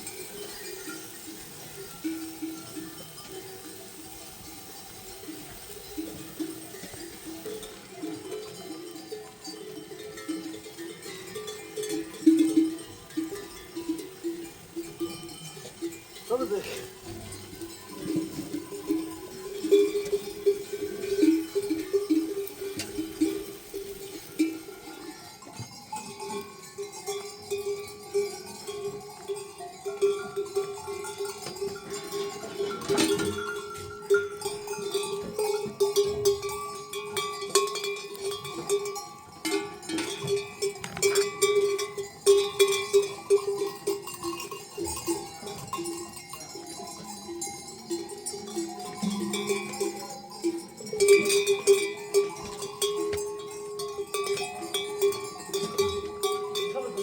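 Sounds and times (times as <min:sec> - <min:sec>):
livestock bells clanking: 0:00.0 - 0:57.0.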